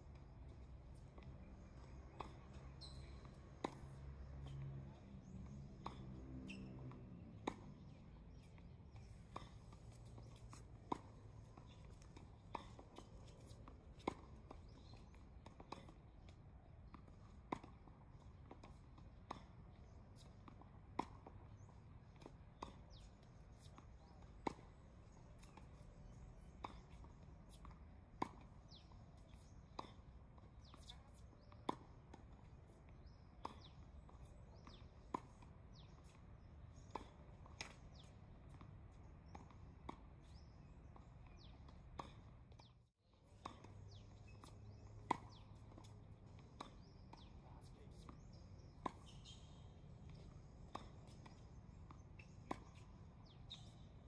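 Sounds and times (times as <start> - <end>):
tennis balls struck by rackets: 0.2 - 42.7, 43.3 - 54.0.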